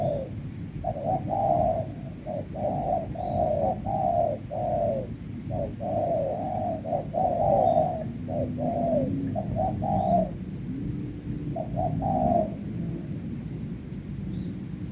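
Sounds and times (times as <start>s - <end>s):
doves cooing: 0.0s - 14.9s.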